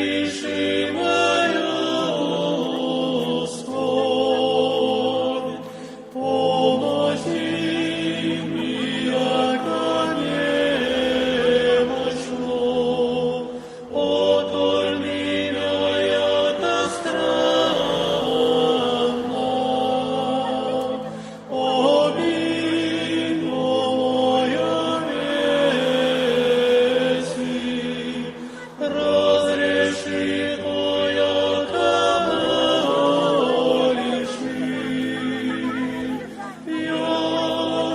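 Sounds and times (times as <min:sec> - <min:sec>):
choir singing a slow chant: 0:00.0 - 0:37.9.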